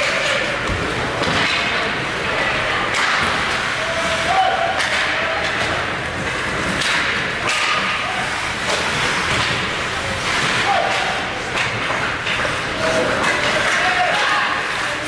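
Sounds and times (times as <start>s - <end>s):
sticks and puck clacking: 0.0s - 15.0s
skate blades scraping ice: 2.9s - 15.0s.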